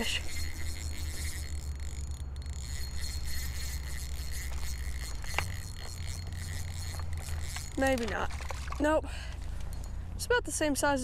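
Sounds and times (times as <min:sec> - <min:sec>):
fishing reel whirring: 0:00.0 - 0:08.8.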